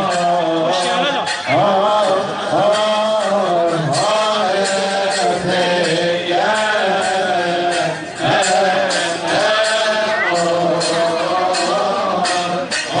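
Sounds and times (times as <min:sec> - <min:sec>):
men chanting a hymn: 0:00.0 - 0:13.0.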